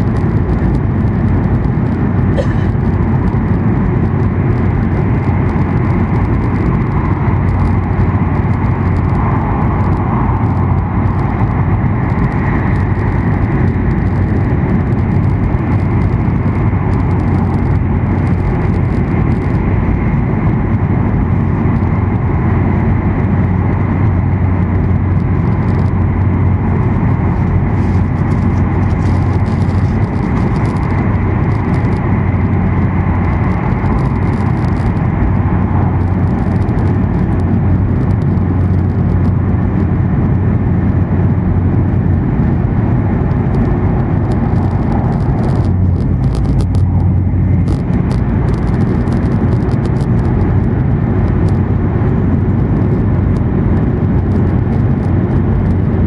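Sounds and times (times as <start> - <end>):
train cabin low rumble and hiss: 0.0 - 56.0.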